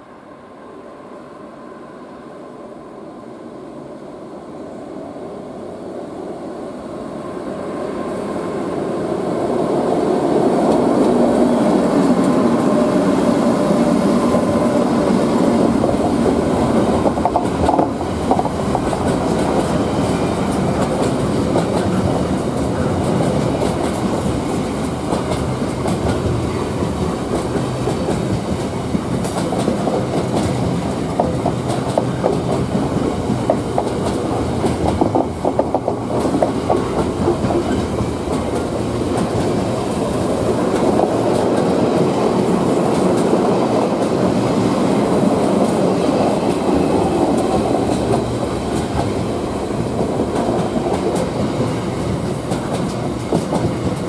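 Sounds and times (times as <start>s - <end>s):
freight train passing: 0.0s - 54.0s
wheels rumbling on rail: 6.9s - 54.0s.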